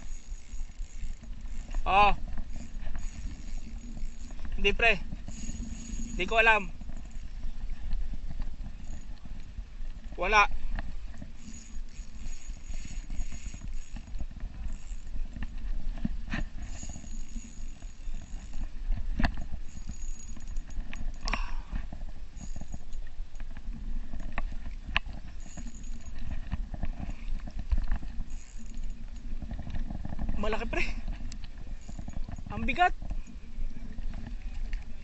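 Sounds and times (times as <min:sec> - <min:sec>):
fishing reel clicking: 0:00.0 - 0:35.0
wind rumbling on microphone: 0:00.0 - 0:35.0.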